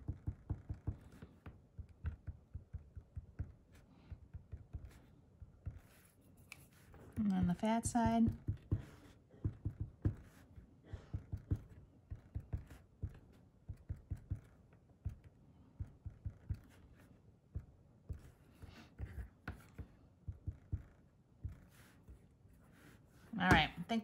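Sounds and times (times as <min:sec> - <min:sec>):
marker tapping on paper: 0:00.0 - 0:16.8, 0:17.5 - 0:22.2, 0:23.4 - 0:23.9.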